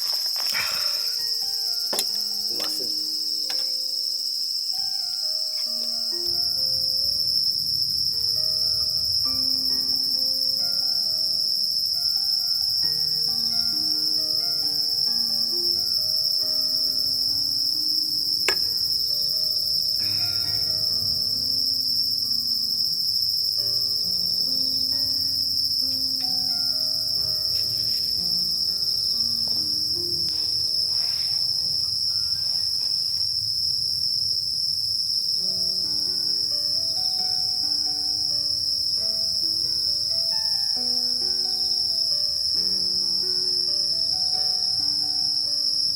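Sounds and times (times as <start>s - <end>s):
crickets and night insects chirping: 0.0s - 45.9s
soft melody: 1.0s - 32.9s, 35.4s - 45.9s.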